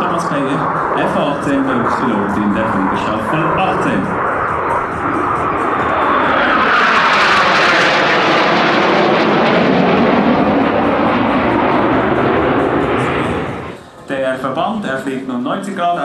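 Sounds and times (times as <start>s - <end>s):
fighter jets flying past: 0.0s - 15.8s.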